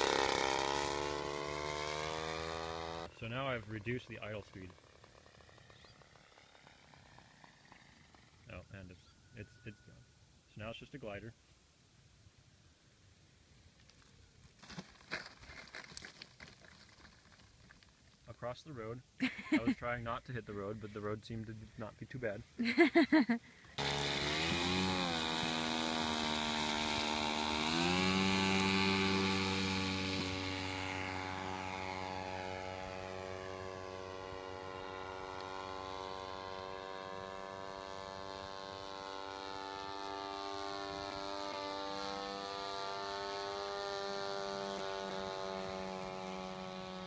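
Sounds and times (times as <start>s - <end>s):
model airplane engine droning: 0.0s - 10.5s, 19.2s - 47.0s.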